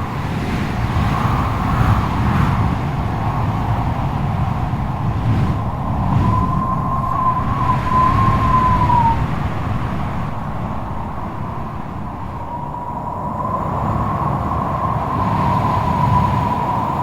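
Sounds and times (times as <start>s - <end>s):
strong wind howling: 0.0s - 17.0s.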